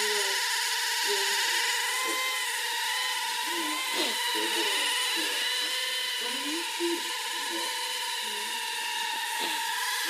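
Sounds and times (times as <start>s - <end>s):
small drone motors whining: 0.0s - 10.0s.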